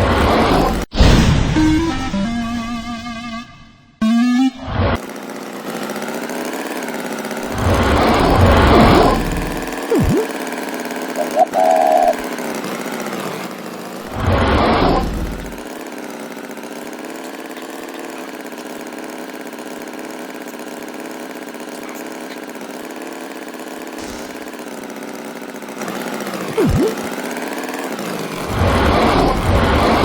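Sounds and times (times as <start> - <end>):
engine idling: 4.8 - 30.0.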